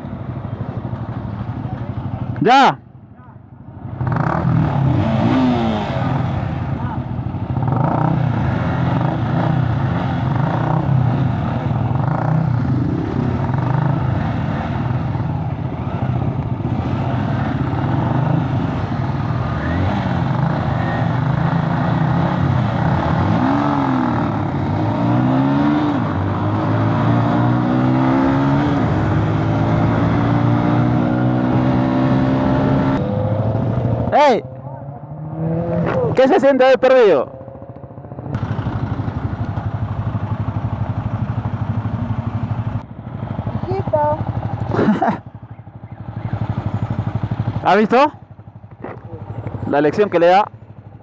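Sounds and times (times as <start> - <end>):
motorcycle engines accelerating: 0.0 - 51.0.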